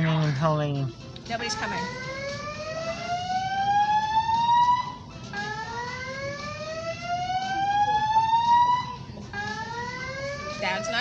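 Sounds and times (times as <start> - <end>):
fire alarm whoop tone: 1.7 - 11.0.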